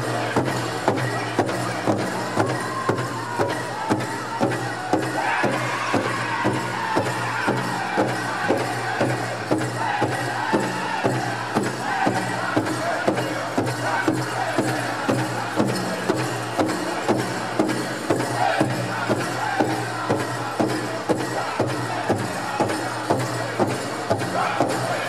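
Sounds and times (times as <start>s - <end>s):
group singing: 0.0s - 25.0s
large drum beating: 0.0s - 25.0s.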